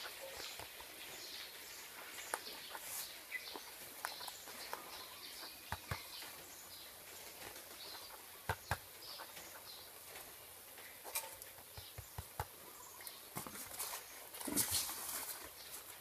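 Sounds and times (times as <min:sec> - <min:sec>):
faint bird chirps: 0:00.0 - 0:14.3.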